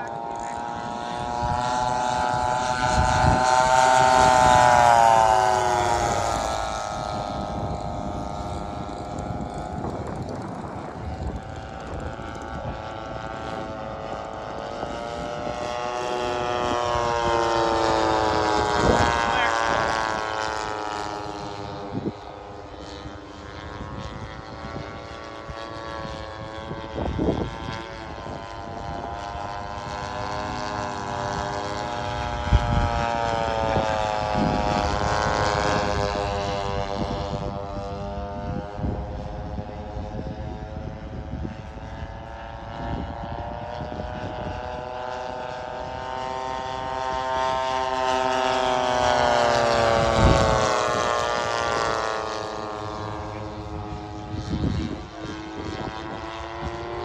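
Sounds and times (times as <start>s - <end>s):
model plane engines droning: 0.0s - 57.0s.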